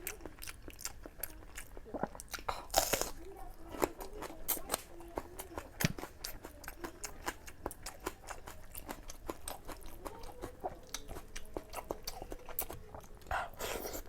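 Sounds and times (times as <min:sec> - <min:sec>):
person chewing soft food: 0:00.0 - 0:14.0.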